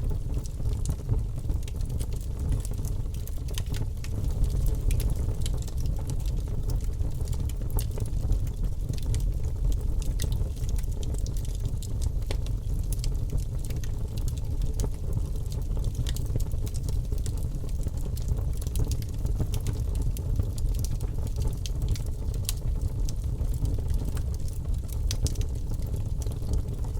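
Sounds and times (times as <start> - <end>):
fire crackling and popping: 0.0 - 26.9
low rumble of flames: 0.0 - 26.9.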